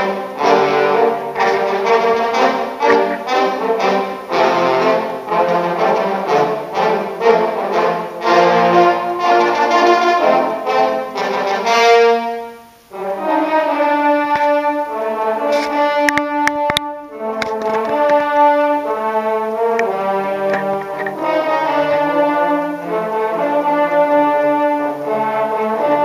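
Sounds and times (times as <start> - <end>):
trombone ensemble chords: 0.0 - 26.0.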